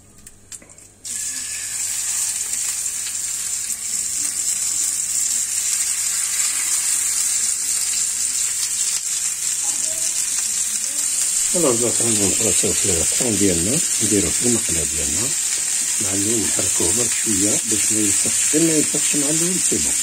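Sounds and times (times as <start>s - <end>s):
fish sizzling in a frying pan: 1.0s - 20.0s.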